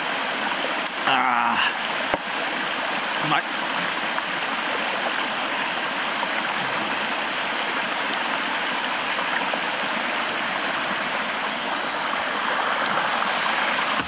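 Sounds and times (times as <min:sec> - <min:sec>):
stream flowing: 0:00.0 - 0:14.0.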